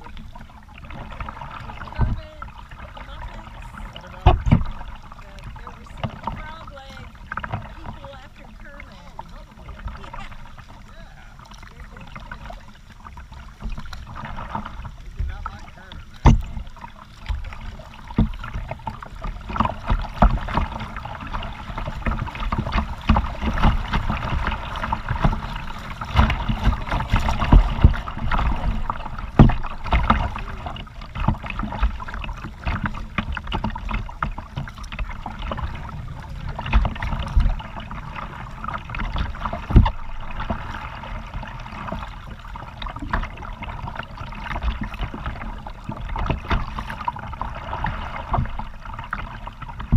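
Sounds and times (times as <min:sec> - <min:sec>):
moving water: 0:00.0 - 0:49.9
paddle strokes splashing: 0:00.0 - 0:49.9.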